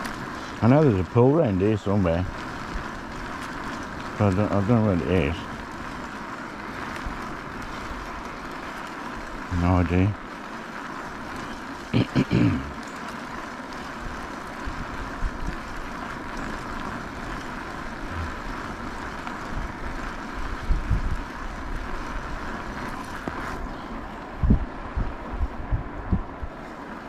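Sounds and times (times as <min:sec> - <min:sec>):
e-bike riding noise: 0:00.0 - 0:27.0
wind rumbling on microphone: 0:00.0 - 0:27.0.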